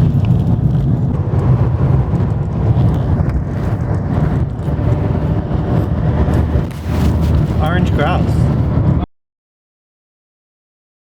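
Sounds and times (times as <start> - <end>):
tyre and engine rumble in car: 0.0 - 9.0
wind noise: 0.0 - 9.1.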